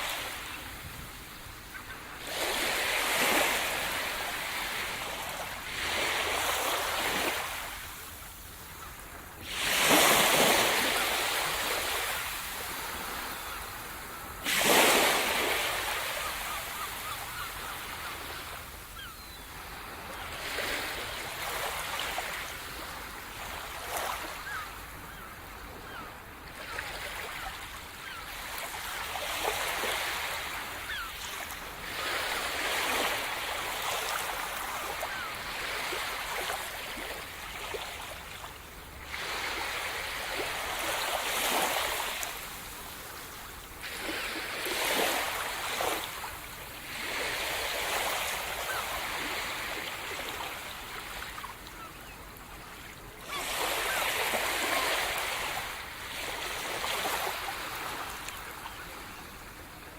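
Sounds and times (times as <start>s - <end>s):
waves breaking on the shore: 0.0s - 59.9s.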